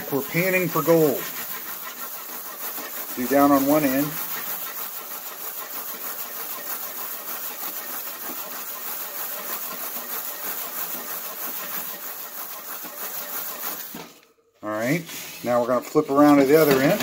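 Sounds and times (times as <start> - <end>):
bullets rattling in a pan: 0.0 - 14.1, 16.2 - 17.0.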